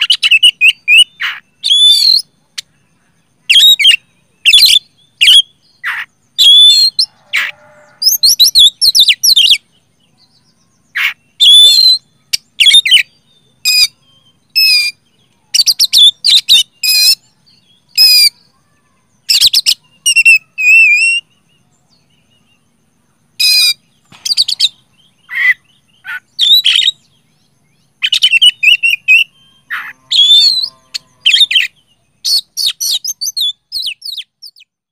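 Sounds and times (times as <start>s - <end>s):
magpie-robin singing: 0.0s - 34.8s.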